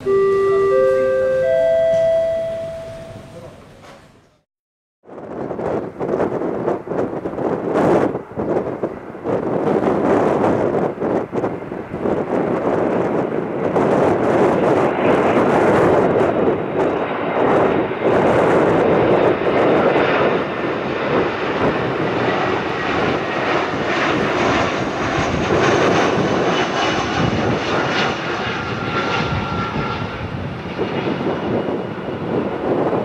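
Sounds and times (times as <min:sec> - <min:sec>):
jet engines rushing: 0:05.1 - 0:33.0.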